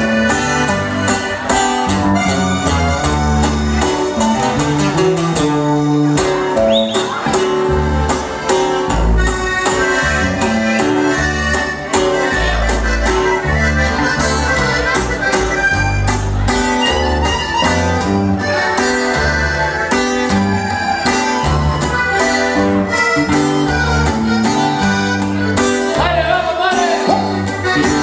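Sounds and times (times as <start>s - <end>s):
accordion melody: 0.0s - 28.0s
guitar: 0.0s - 28.0s.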